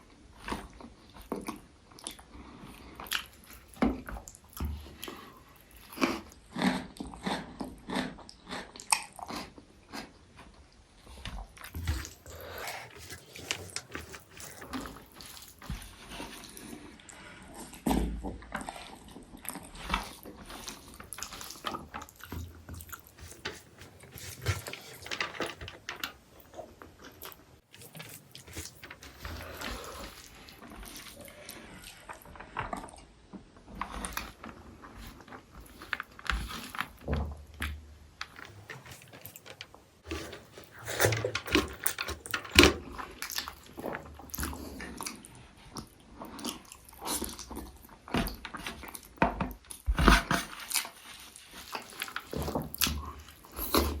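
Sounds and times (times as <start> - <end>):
wet chewing and mouth smacking: 0.1 - 25.0, 26.4 - 39.6, 40.7 - 49.9.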